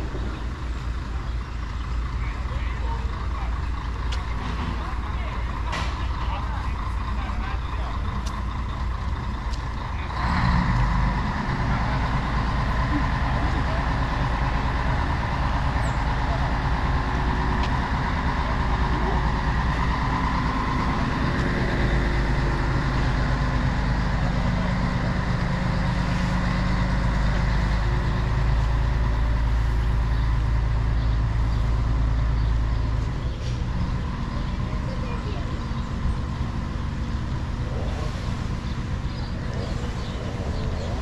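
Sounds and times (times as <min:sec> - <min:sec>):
large vehicle engine humming: 0:00.0 - 0:41.0
street traffic noise: 0:00.0 - 0:41.0.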